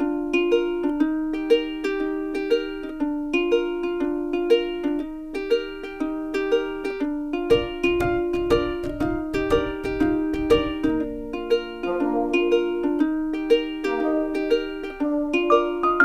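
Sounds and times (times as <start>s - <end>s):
plucked-string melody: 0.0s - 16.0s.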